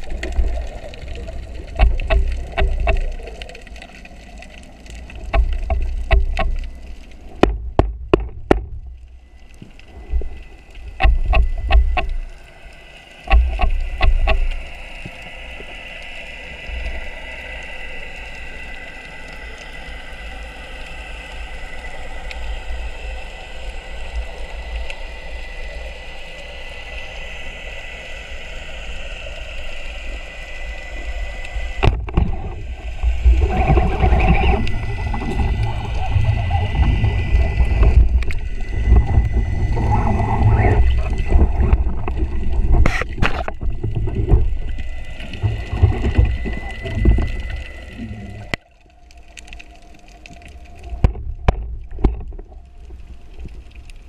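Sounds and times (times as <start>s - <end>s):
faint steady whine: 0.0s - 54.0s
steady hiss: 0.0s - 54.0s
underwater rumbling and clicking: 0.0s - 54.0s.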